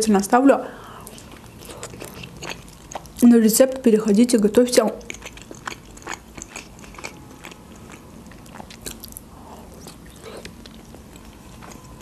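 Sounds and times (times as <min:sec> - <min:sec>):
wet mouth clicks and chewing: 0:01.0 - 0:03.8, 0:04.8 - 0:11.9.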